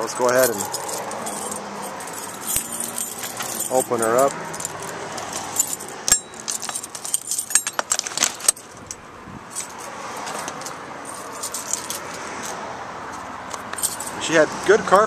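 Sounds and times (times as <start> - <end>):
keys jangling: 0.3 - 14.2.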